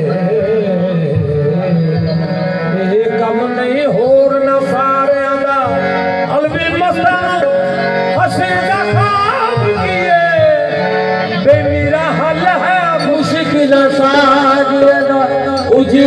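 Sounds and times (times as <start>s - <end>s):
harmonium chords: 0.0s - 16.0s
man singing: 0.0s - 16.0s.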